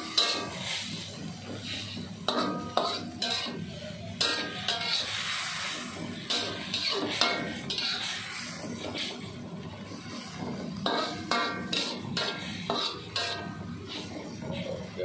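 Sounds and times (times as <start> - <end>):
frying sizzle: 0.0 - 15.0
metal spatula scraping a wok: 0.0 - 15.0.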